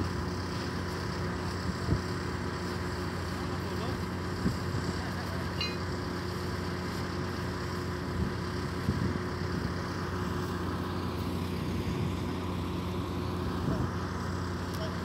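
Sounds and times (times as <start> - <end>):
heavy machine engine droning: 0.0 - 15.0.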